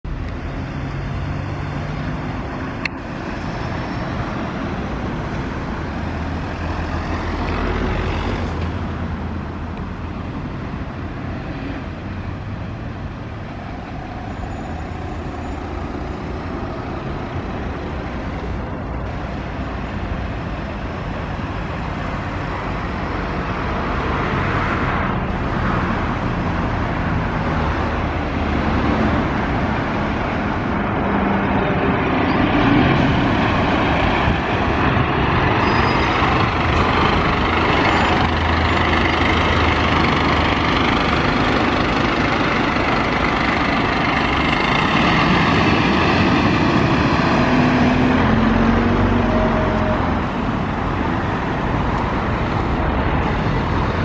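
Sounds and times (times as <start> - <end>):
road traffic passing: 0.0 - 54.0
fire engine diesel engine approaching: 0.1 - 54.0.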